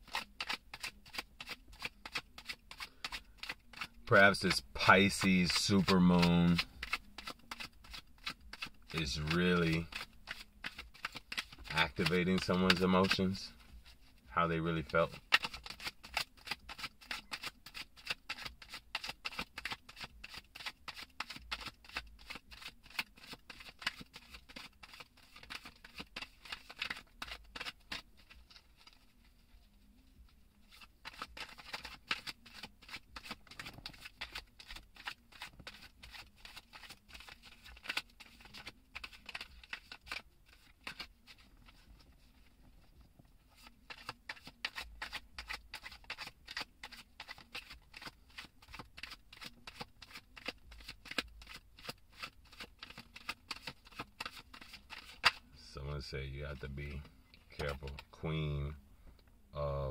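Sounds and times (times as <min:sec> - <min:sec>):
cards being shuffled: 0:00.0 - 0:55.5, 0:56.5 - 0:58.2.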